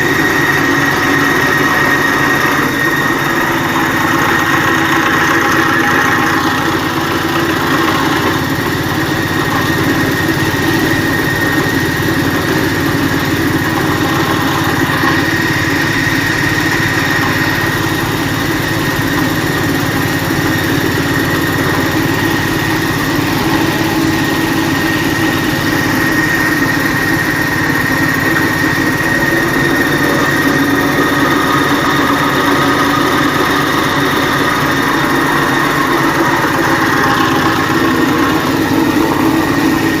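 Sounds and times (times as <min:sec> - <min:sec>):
grinding machine drone: 0:00.0 - 0:40.0
steady high tone: 0:00.0 - 0:40.0.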